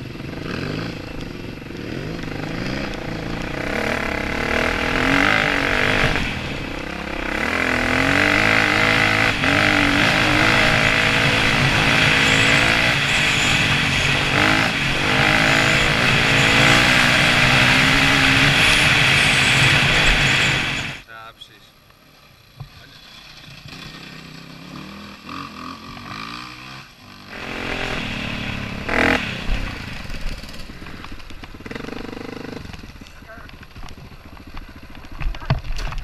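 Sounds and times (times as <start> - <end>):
dirt bike engine revving: 0.0 - 21.0, 22.8 - 35.4.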